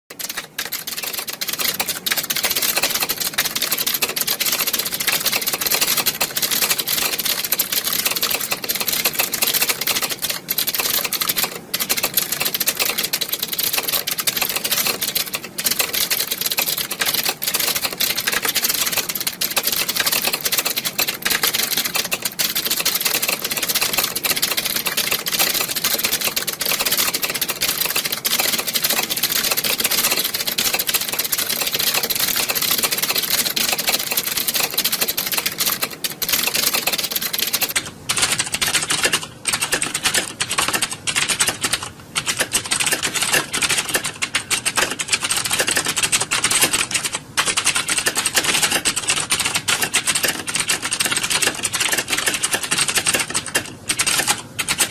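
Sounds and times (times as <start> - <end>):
many keyboards typing: 0.0 - 54.9.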